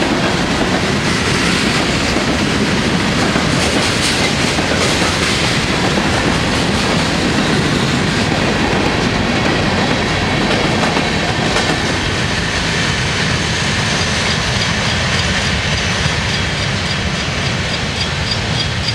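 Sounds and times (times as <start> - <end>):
freight train cars rolling past: 0.0 - 18.9.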